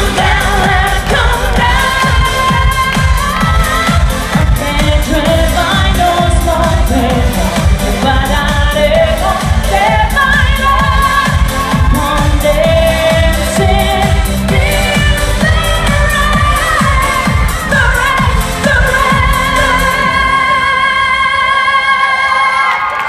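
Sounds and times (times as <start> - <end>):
pounding bass and drum beat: 0.0 - 20.4
woman singing: 0.0 - 23.0.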